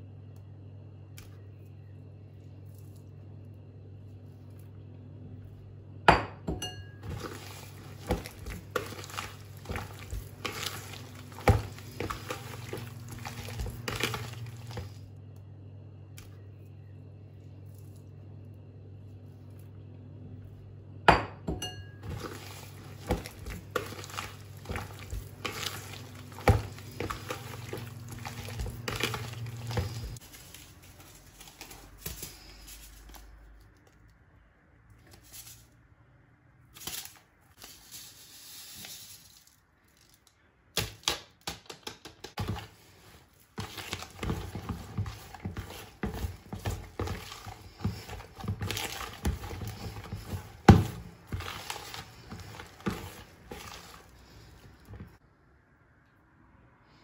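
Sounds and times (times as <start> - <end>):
dough squishing in a bowl: 0.0 - 33.9, 41.8 - 55.2.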